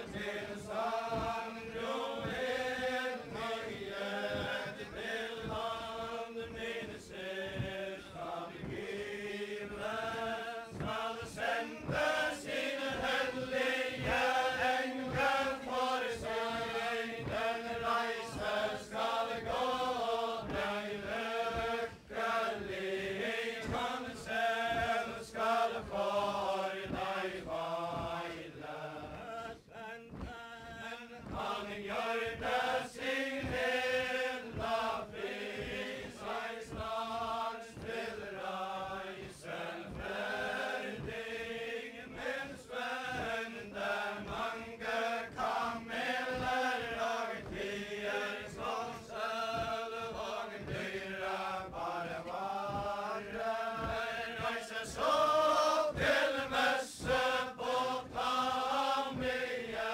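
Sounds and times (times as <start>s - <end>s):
dull low thuds of dance steps: 0.0s - 59.9s
group chanting a ballad in unison: 0.0s - 59.9s.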